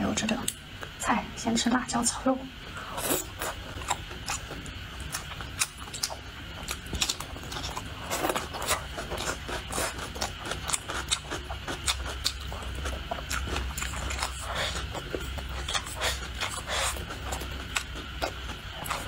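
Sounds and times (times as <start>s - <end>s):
close-up chewing: 3.0s - 19.0s.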